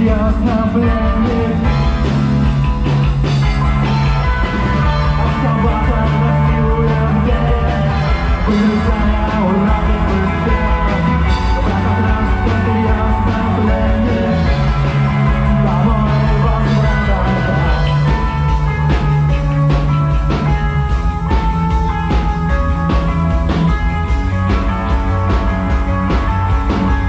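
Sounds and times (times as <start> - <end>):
live psychedelic rock band: 0.0 - 27.0.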